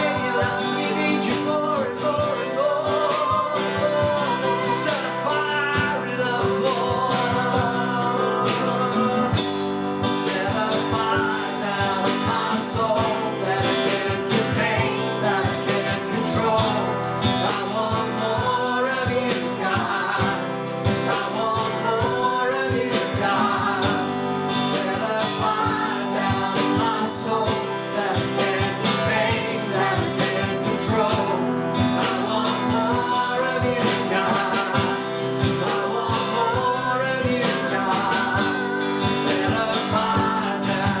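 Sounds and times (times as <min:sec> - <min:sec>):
person singing: 0:00.0 - 0:41.0
strummed acoustic guitar: 0:00.0 - 0:41.0.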